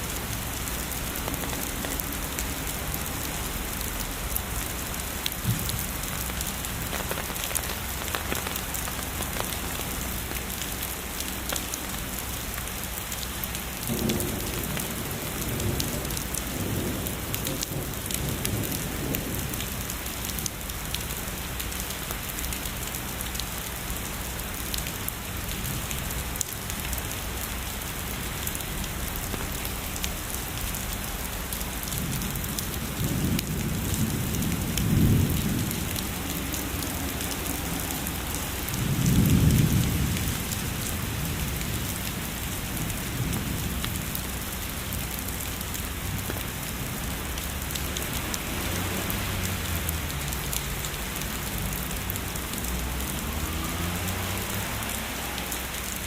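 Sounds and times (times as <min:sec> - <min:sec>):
heavy rainfall: 0:00.0 - 0:56.0
raindrops ticking: 0:00.0 - 0:56.0.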